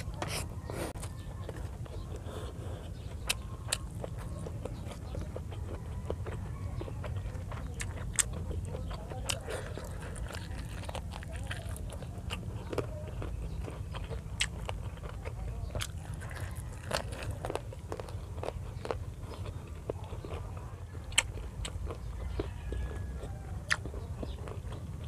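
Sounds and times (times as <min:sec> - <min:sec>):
low steady hum: 0:00.0 - 0:25.0
person chewing and biting: 0:00.0 - 0:25.0.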